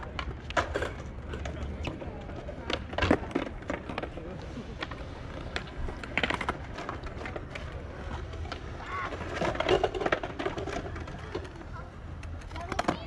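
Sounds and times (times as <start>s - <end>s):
skate wheels clacking on concrete: 0.0s - 13.0s.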